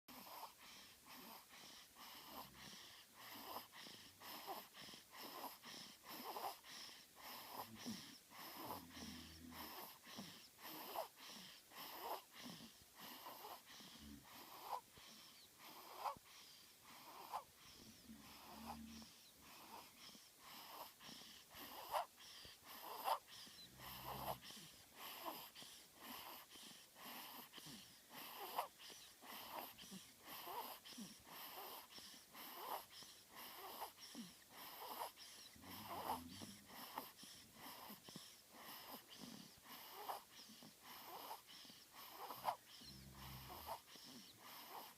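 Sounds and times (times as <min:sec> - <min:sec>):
baby snoring faintly: 0:00.1 - 0:44.9.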